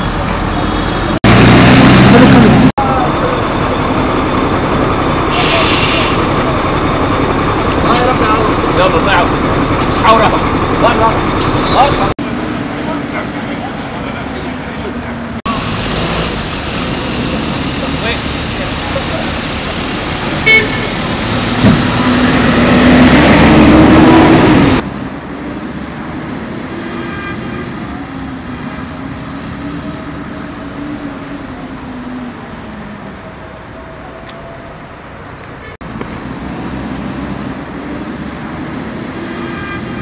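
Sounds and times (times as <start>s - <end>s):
bus engine pulling away: 0.0s - 40.0s
distant traffic noise: 0.0s - 40.0s
road noise: 0.0s - 40.0s.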